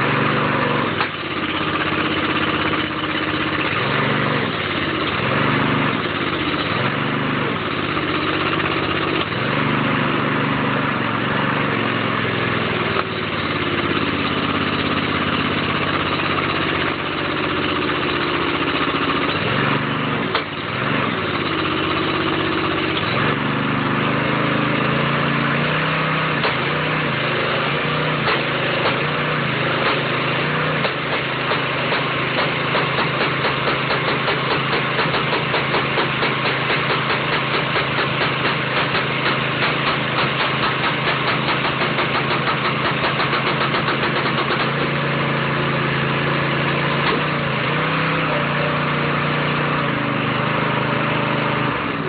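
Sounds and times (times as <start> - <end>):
small engine running: 0.0 - 52.0.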